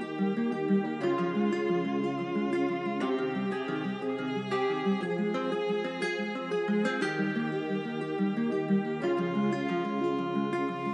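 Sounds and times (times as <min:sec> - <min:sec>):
instrumental melody: 0:00.0 - 0:10.9.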